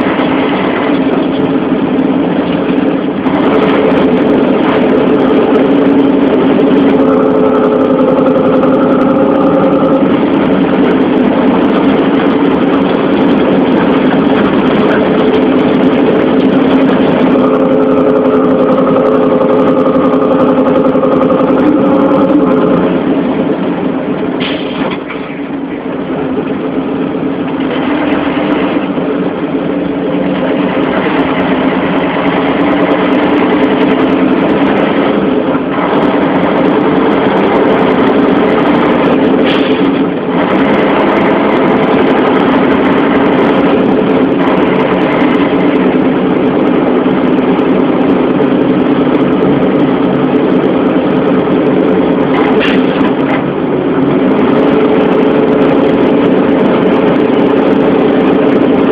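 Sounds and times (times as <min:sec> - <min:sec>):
heavy truck engine running: 0:00.0 - 0:58.9.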